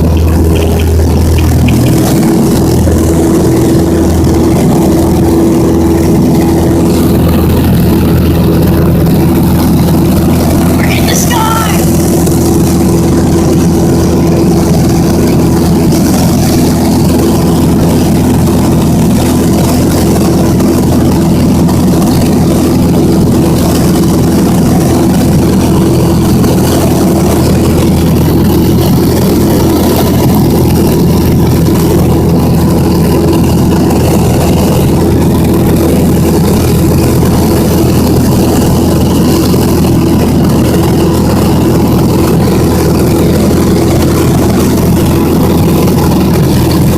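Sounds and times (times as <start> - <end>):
propeller airplane engine in cabin: 0.0 - 46.9.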